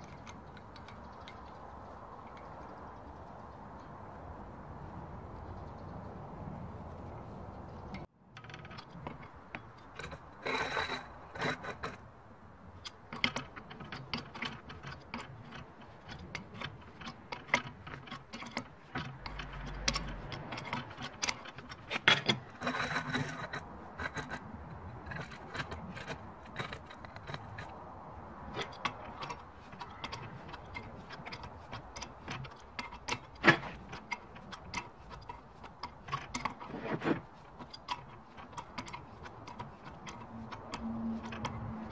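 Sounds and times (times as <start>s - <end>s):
metallic clinks and scrapes: 0.0s - 3.9s, 6.9s - 41.9s.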